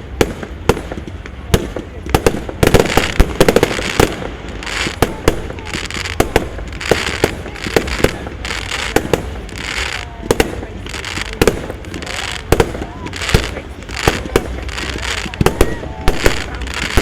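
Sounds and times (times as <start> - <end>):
fireworks banging: 0.0 - 17.0
fireworks fizzing hiss: 0.0 - 17.0.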